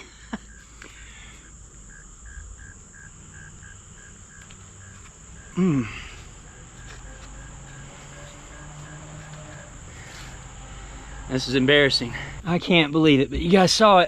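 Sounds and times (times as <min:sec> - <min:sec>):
cricket chirping: 0:00.0 - 0:14.0
insect chorus drone: 0:00.0 - 0:14.0.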